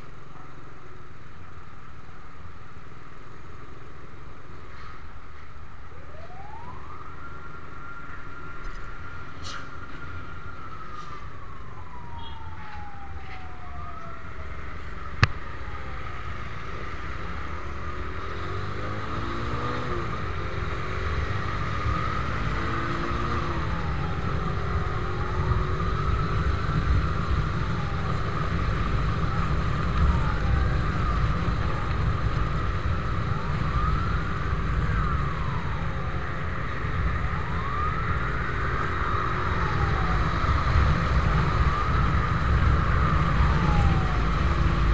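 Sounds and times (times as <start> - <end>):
motorcycle engine rumble: 0.0 - 44.9
fire engine siren wailing: 5.8 - 44.9.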